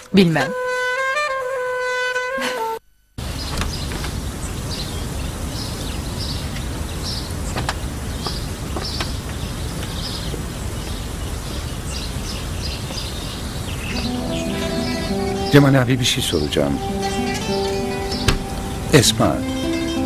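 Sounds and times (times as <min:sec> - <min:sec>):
small birds chirping: 0:03.2 - 0:20.0.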